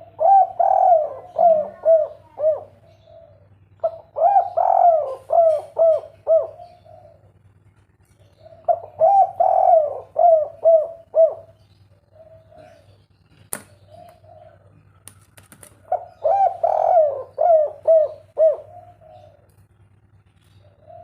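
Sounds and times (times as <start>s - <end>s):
dove cooing: 0.0s - 7.4s, 8.2s - 19.6s, 20.5s - 21.0s
steady low hum: 0.0s - 21.0s.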